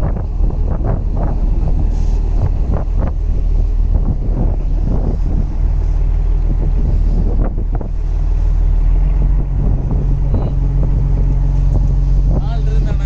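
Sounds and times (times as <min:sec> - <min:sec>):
boat engine humming: 0:00.0 - 0:13.0
wind buffeting microphone: 0:00.0 - 0:13.0.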